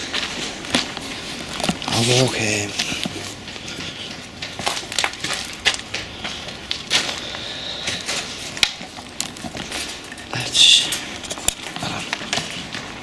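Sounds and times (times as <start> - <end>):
footsteps crunching on gravel: 0.0 - 13.0.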